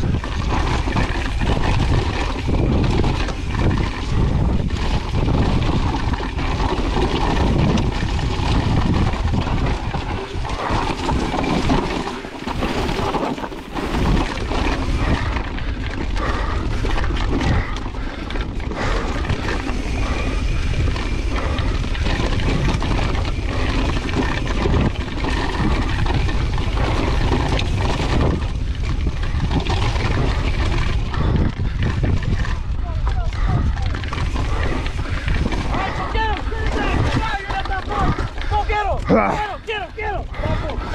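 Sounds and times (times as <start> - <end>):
bike rattling and knocking: 0.0 - 40.9
tyres on loose rock: 0.0 - 40.9
wind on microphone: 0.0 - 40.9.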